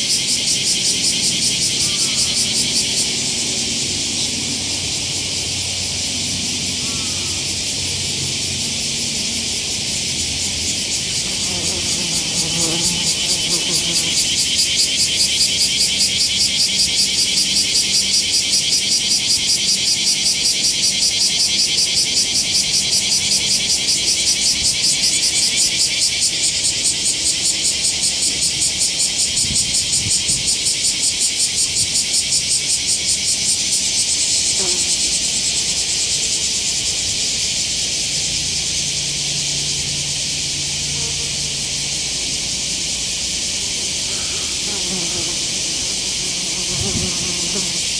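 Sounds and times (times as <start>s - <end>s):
cicadas singing: 0.0s - 47.9s.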